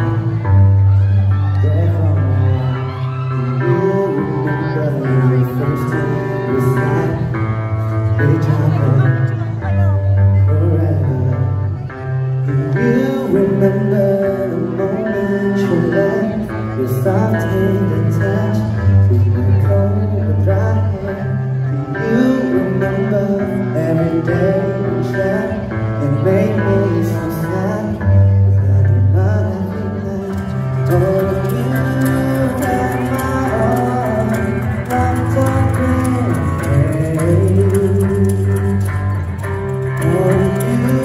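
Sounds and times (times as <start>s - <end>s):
bass guitar: 0.0s - 41.0s
electric guitar: 0.0s - 41.0s
man singing: 0.0s - 41.0s.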